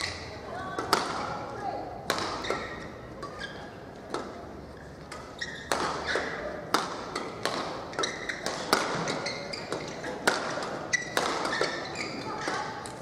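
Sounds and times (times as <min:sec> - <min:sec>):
shoes squeaking on court floor: 0:00.0 - 0:01.5, 0:02.1 - 0:13.0
rackets smacking a shuttlecock: 0:00.0 - 0:13.0.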